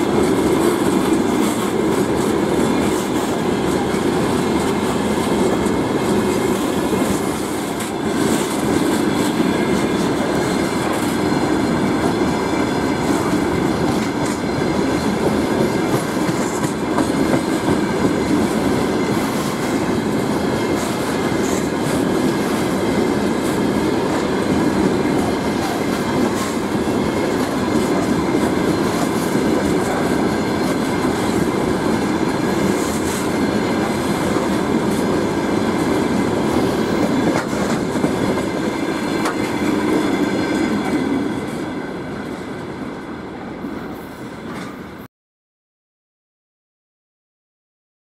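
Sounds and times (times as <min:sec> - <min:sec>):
freight train wheels rumbling on rails: 0:00.0 - 0:45.1.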